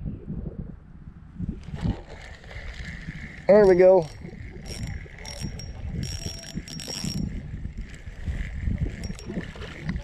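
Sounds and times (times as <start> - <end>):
fishing reel gears whirring: 1.6 - 10.0.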